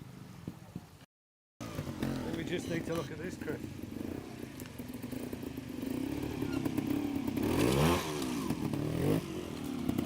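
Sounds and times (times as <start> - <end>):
motorcycle engine revving: 1.6 - 10.0.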